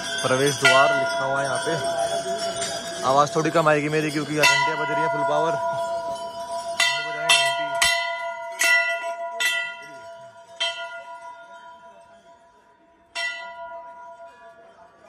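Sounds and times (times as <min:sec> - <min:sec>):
brass bells ringing: 0:00.0 - 0:15.0.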